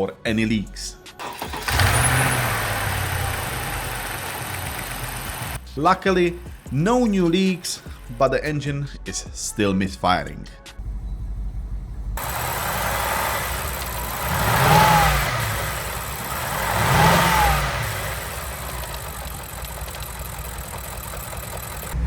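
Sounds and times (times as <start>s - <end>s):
car engine idling with misfire: 1.2s - 8.2s, 10.8s - 22.0s
car engine revving: 1.2s - 8.2s, 10.8s - 22.0s.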